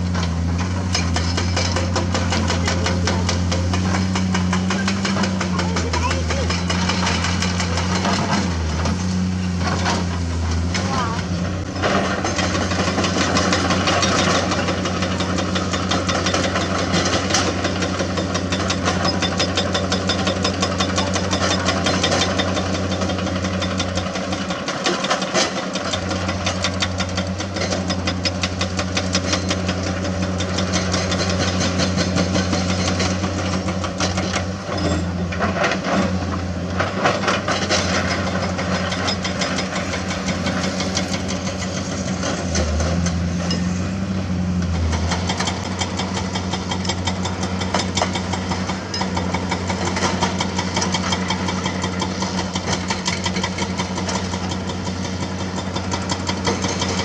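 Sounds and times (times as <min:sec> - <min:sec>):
hydraulic rock breaker hammering: 0:00.0 - 0:44.0, 0:44.6 - 0:57.0
diesel engines running: 0:00.0 - 0:57.0.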